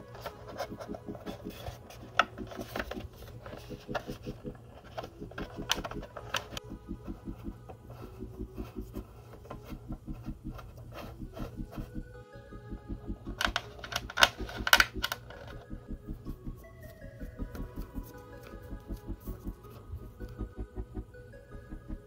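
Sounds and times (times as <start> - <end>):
light background music: 0.0 - 22.0.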